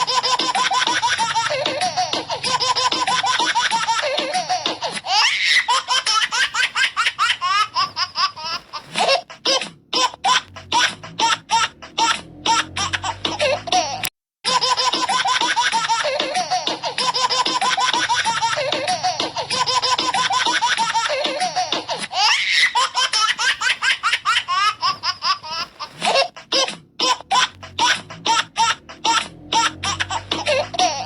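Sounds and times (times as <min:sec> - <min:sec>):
baby laughing: 0:00.0 - 0:31.0.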